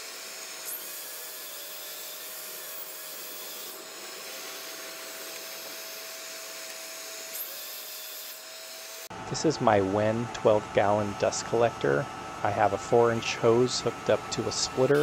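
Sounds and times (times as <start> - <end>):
dust collector humming: 0.0 - 15.0
miter saw whining and cutting: 0.0 - 15.0.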